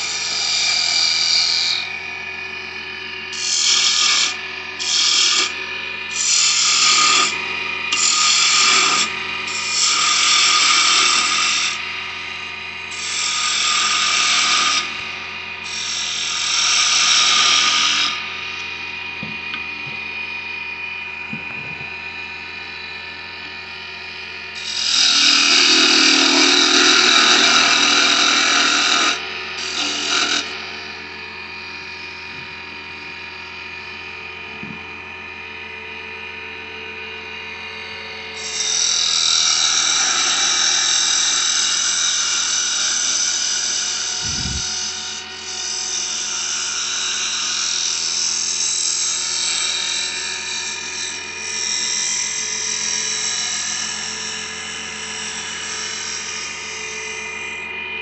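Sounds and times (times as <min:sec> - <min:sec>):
lathe motor hum: 0:00.0 - 0:57.8.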